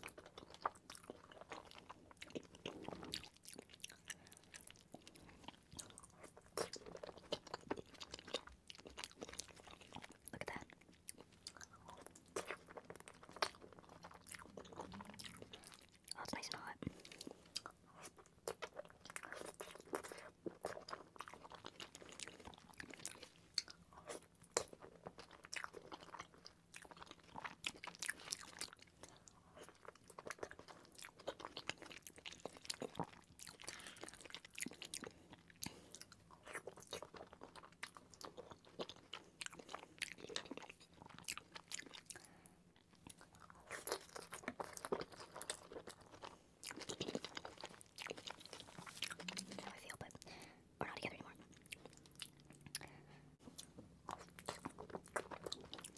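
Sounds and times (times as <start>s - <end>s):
person chewing: 0.0s - 55.9s.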